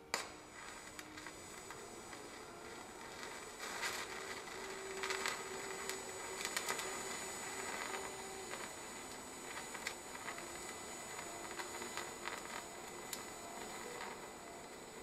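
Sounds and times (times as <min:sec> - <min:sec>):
welding arc crackles: 0:00.0 - 0:15.0
welding arc hiss and hum: 0:00.0 - 0:15.0.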